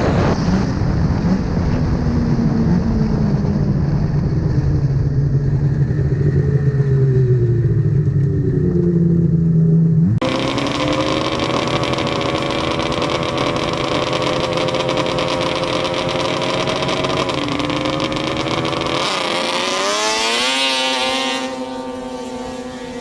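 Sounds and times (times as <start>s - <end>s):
snowmobile engines at high revs: 0.0s - 23.0s.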